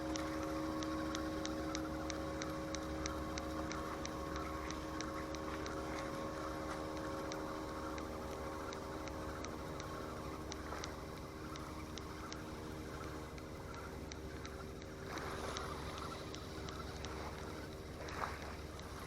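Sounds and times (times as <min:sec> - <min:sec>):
motor humming: 0:00.0 - 0:19.0
quick regular ticking: 0:00.0 - 0:19.0.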